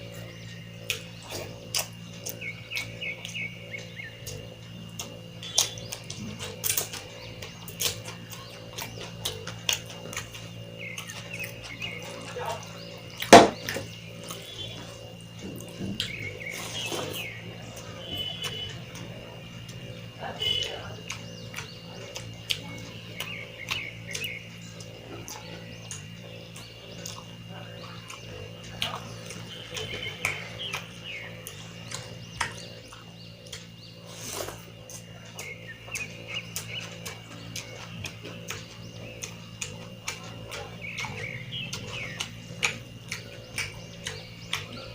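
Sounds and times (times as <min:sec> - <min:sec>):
faint steady hum: 0:00.0 - 0:44.9
wet chewing: 0:00.0 - 0:44.9
lip smacks and clicks: 0:00.8 - 0:44.9.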